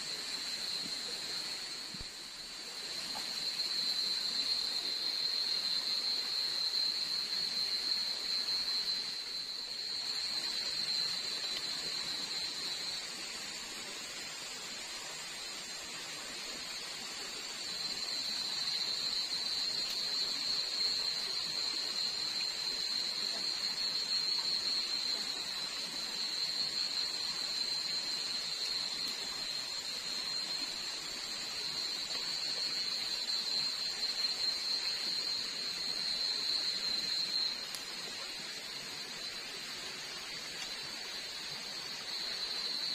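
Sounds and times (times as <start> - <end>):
shrill insect trill: 0.0 - 42.9
steady hiss: 0.0 - 42.9.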